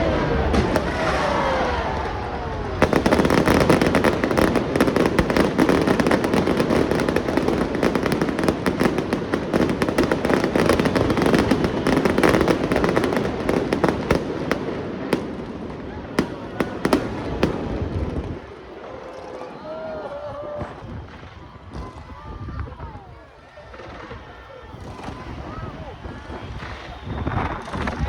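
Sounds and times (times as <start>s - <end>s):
fireworks crackling: 0.0s - 19.5s, 20.3s - 28.0s.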